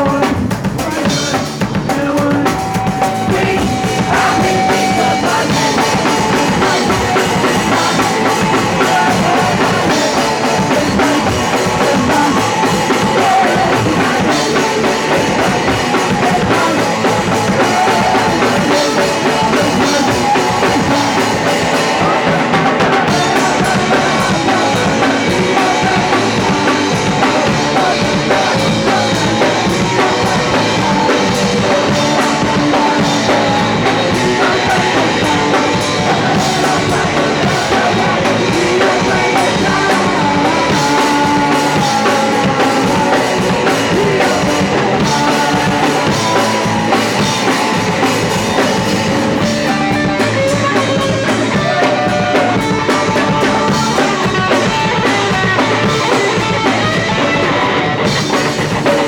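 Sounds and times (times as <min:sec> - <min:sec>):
distorted guitar: 0:00.0 - 0:59.0
fast drumming: 0:00.0 - 0:59.0
punk rock band playing: 0:00.0 - 0:59.0.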